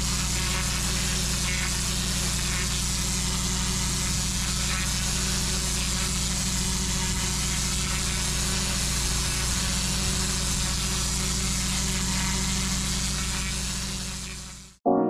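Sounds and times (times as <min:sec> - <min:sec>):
water jet hissing on paving: 0:00.0 - 0:14.5
pressure washer engine and pump: 0:00.0 - 0:14.8.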